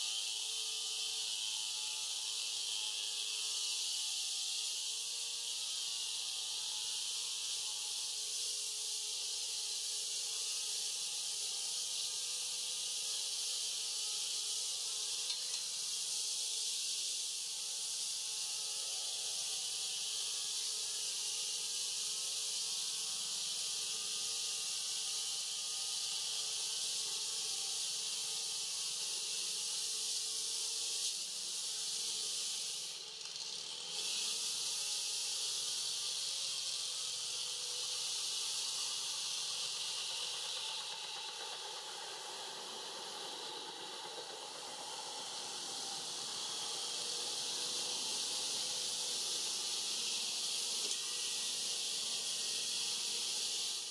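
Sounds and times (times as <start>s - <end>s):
high-pitched hiss: 0.0s - 53.9s.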